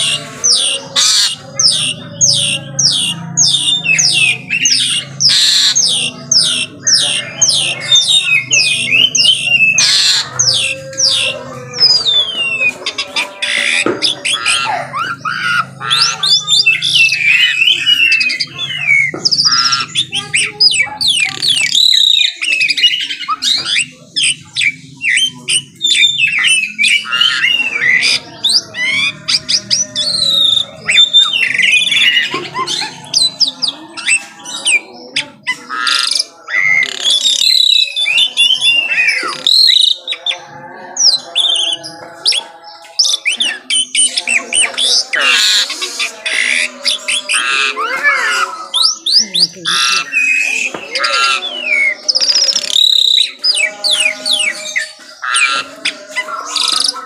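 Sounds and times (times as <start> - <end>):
starling singing whistles and squawks: 0.0 - 57.0.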